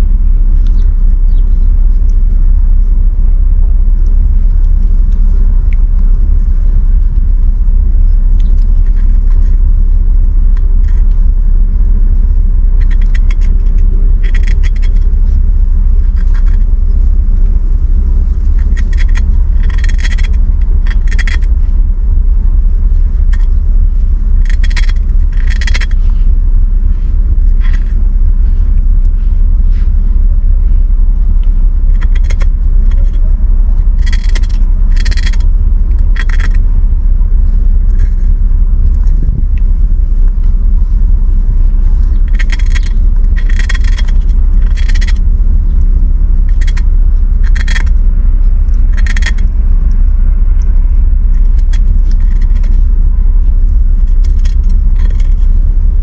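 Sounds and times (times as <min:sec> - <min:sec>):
low rumble: 0:00.0 - 0:56.0.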